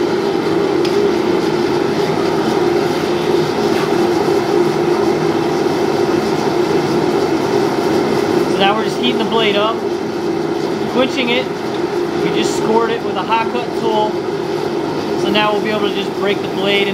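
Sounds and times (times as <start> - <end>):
constant hum: 0.0 - 16.9
gas forge rushing: 0.0 - 16.9.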